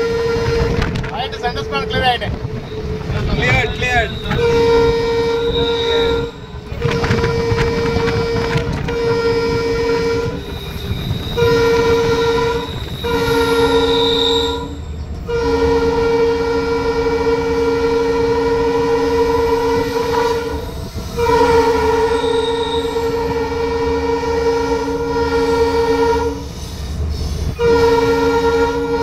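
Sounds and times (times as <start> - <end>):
locomotive air horn blasts: 0.0 - 26.6, 27.4 - 29.0
low rumble of moving locomotive: 0.0 - 29.0.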